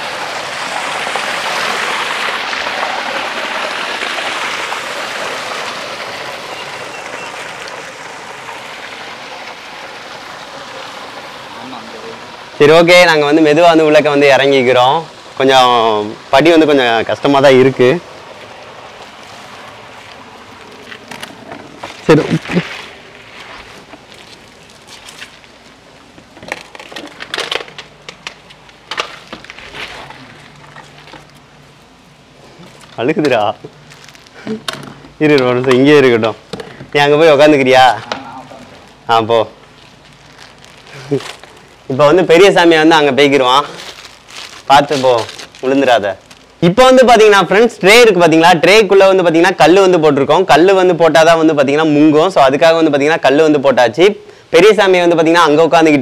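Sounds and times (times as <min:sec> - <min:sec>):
water rushing and splashing: 0:00.0 - 0:48.2.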